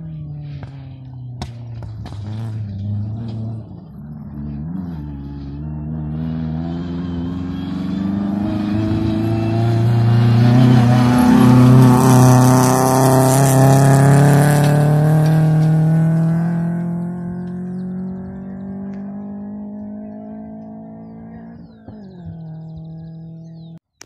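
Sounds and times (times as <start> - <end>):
rally car engine under load: 0.0 - 24.0.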